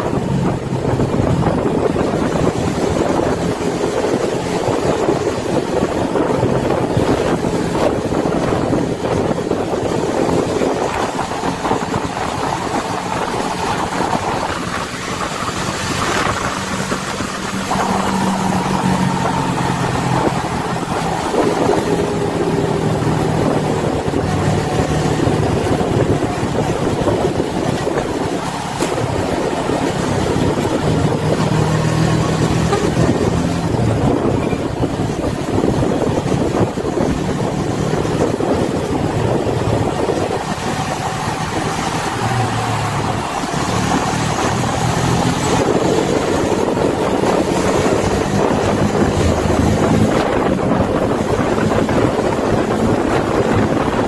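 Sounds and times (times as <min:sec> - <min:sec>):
road and tyre noise: 0:00.0 - 0:54.0
vehicle engine rumble: 0:00.0 - 0:54.0
wind noise: 0:00.0 - 0:54.0.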